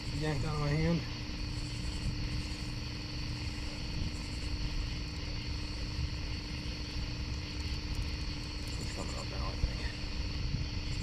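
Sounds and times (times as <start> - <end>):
constant hum tone: 0.0 - 11.0
low rumbling drone: 0.0 - 11.0.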